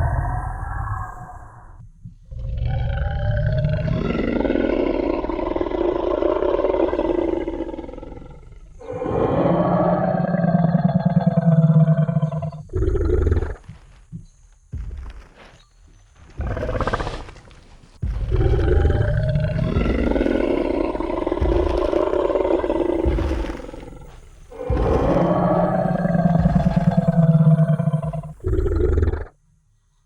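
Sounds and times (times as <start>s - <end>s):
deep growling roars: 0.0s - 13.6s, 18.0s - 29.3s
low rumbles: 0.0s - 29.2s.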